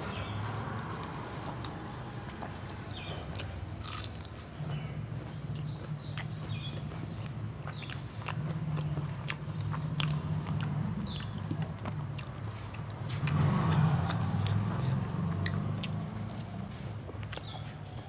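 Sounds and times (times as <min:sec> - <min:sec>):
person chewing food: 0:00.4 - 0:18.0.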